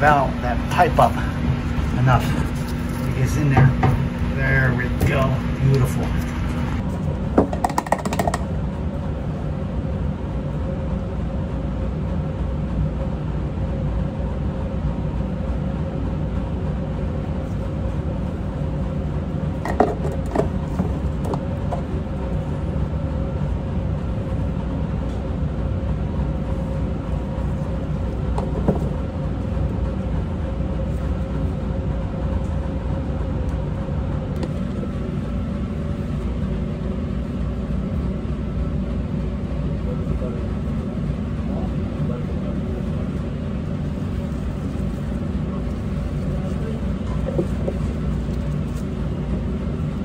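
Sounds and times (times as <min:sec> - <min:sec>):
faint hum: 0:00.0 - 0:50.0.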